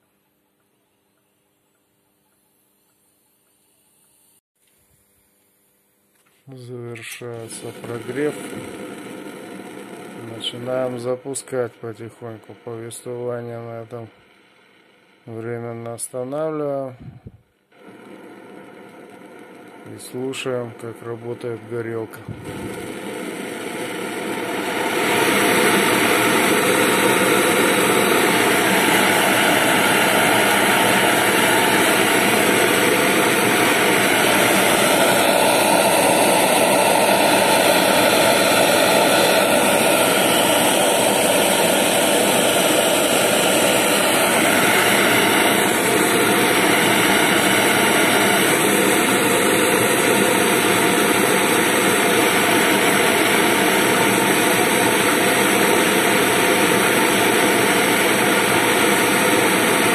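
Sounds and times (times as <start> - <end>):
stove burner roaring: 6.5 - 59.9.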